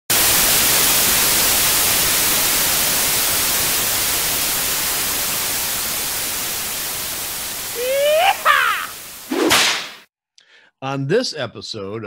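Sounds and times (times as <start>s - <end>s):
static hiss: 0.1s - 10.1s.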